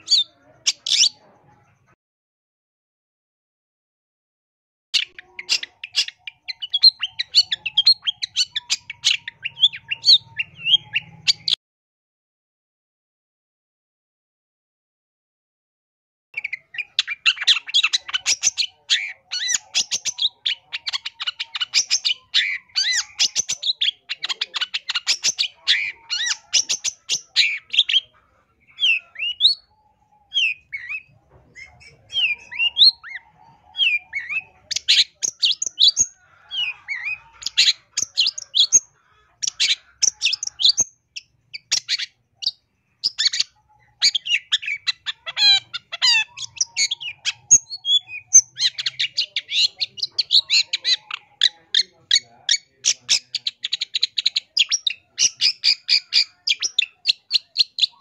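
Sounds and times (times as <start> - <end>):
bird singing varied song: 0.0 - 2.0, 5.0 - 11.6, 16.4 - 58.0.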